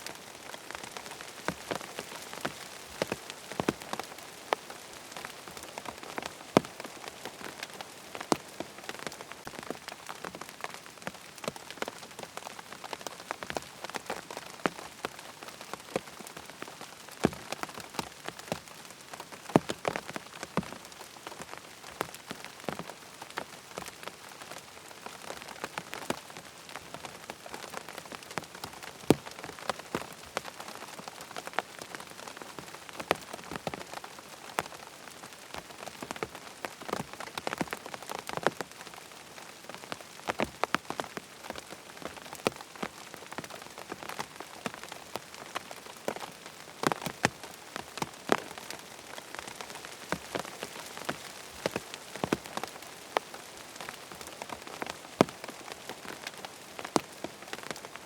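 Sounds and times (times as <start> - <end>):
rain pattering on tent fabric: 0.0 - 58.0.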